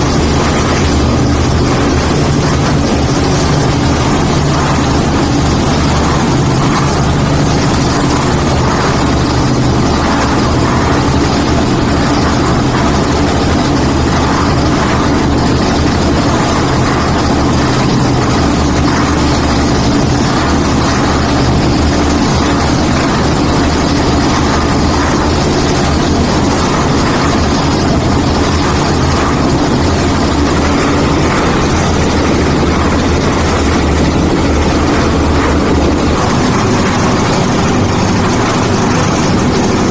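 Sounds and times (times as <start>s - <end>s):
concrete mixer engine drone: 0.0s - 39.9s.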